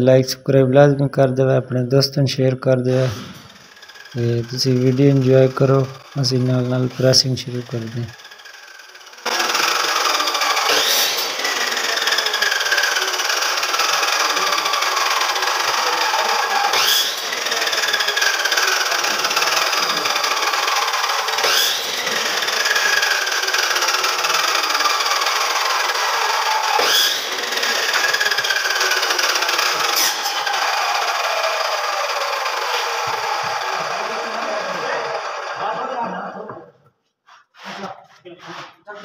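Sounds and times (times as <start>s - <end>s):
electric saw cutting wood: 2.9s - 36.4s.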